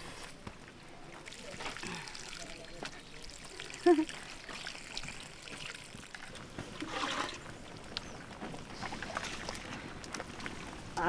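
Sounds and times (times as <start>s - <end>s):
water bubbling in pots: 0.0s - 11.0s.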